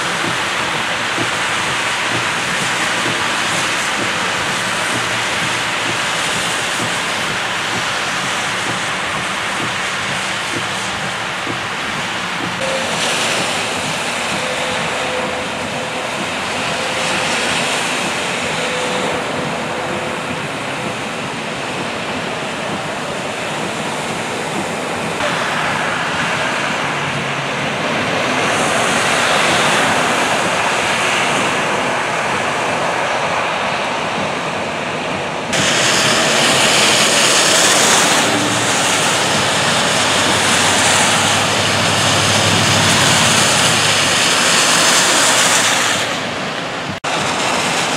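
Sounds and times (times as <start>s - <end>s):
tyres spraying through water: 0.0s - 34.3s, 35.5s - 47.9s
rain falling: 0.0s - 34.8s, 35.5s - 47.9s.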